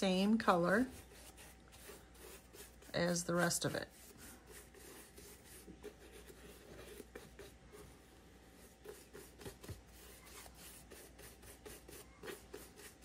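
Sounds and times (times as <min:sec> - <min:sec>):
low steady hum: 0:00.0 - 0:13.0
paintbrush brushing on wood: 0:00.5 - 0:13.0.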